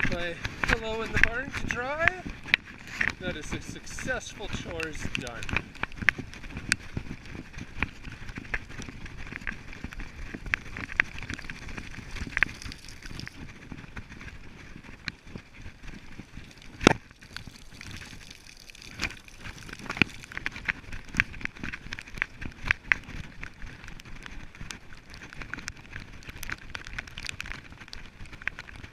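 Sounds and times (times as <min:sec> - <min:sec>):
raindrops pattering on hard surface: 0:00.0 - 0:28.9.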